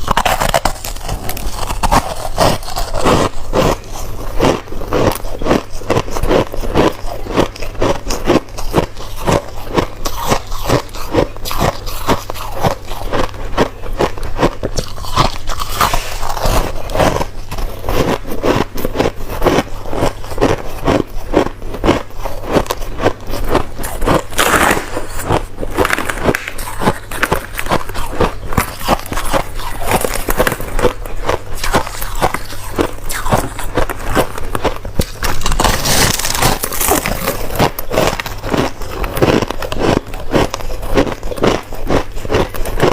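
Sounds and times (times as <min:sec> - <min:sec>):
crushed ice being chewed: 0:00.0 - 0:42.9.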